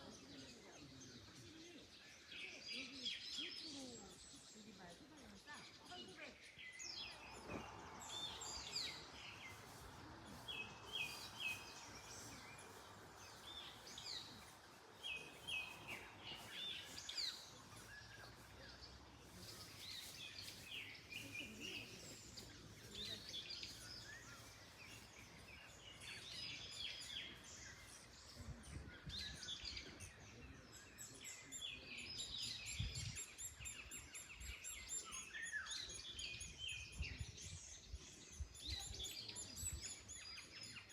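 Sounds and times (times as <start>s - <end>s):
birds singing and chirping: 0.0s - 40.9s
wind in trees: 0.0s - 40.9s.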